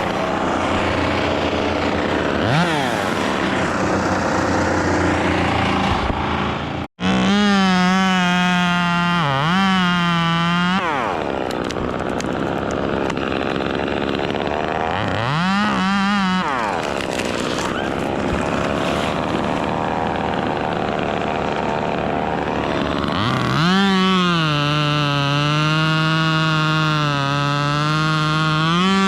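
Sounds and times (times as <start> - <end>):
chainsaw engine running: 0.0 - 29.0.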